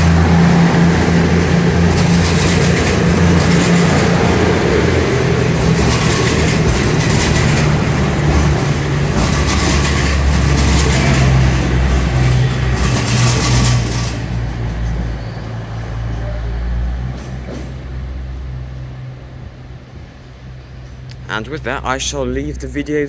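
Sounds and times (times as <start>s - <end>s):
train wheels rolling on track: 0.0s - 22.9s
diesel train engines running: 0.0s - 23.0s.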